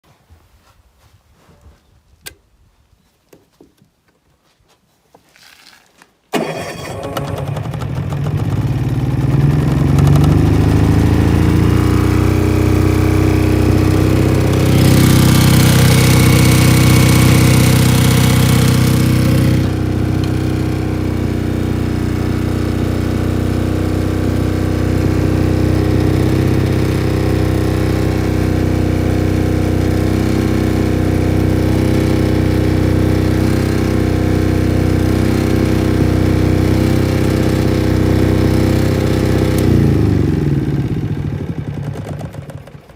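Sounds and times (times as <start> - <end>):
generator engine running: 6.4 - 42.9.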